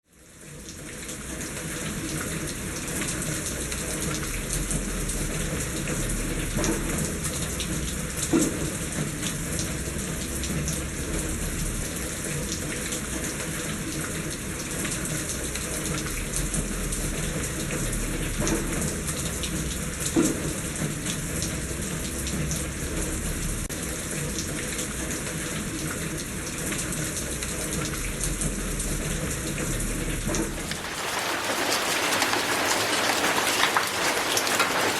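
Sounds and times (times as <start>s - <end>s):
steady rain patter: 0.0s - 34.9s.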